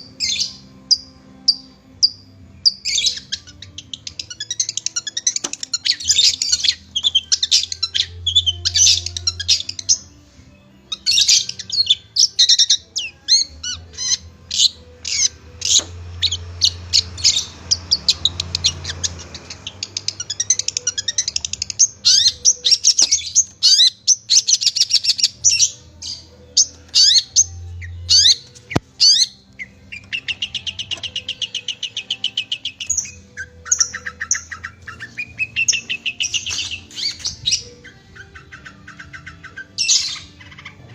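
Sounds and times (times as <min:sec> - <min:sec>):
bird singing chirps and whistles: 0:00.1 - 0:10.1, 0:10.9 - 0:40.9.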